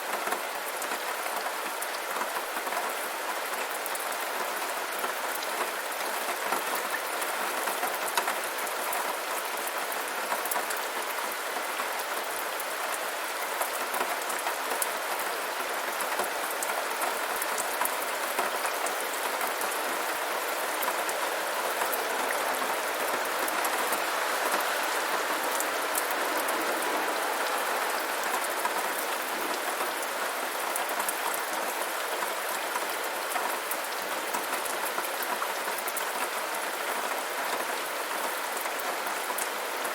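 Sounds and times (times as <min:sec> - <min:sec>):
rain pattering on hard surface: 0:00.0 - 0:39.9.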